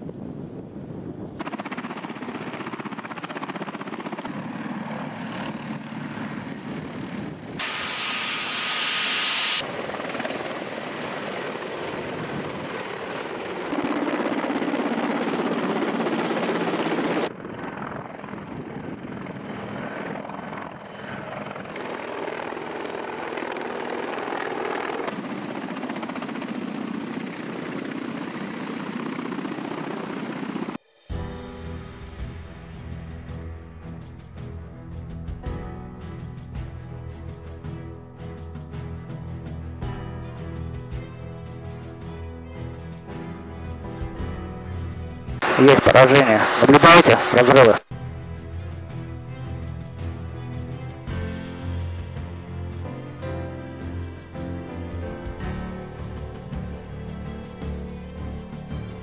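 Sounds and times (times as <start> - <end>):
helicopter rotors and turbine engines: 0.0 - 59.0.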